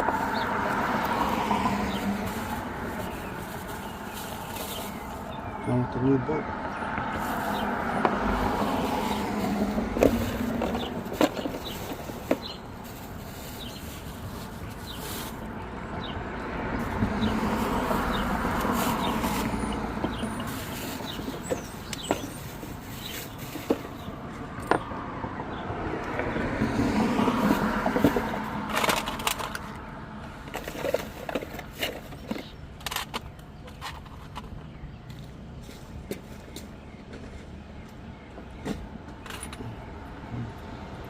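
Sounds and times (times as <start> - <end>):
passing road traffic: 0.0 - 41.0.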